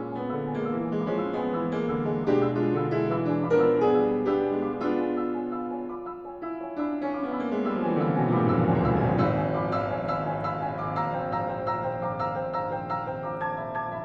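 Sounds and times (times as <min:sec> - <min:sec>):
grand piano playing: 0:00.0 - 0:14.0.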